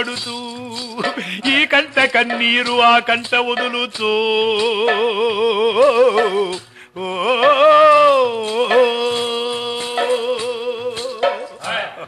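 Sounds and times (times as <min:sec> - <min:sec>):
person singing ornamented notes: 0:00.0 - 0:11.7.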